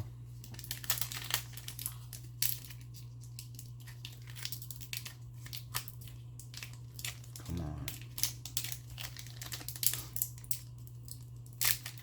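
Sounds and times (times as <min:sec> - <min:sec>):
plastic wrapper crinkling: 0:00.4 - 0:12.0.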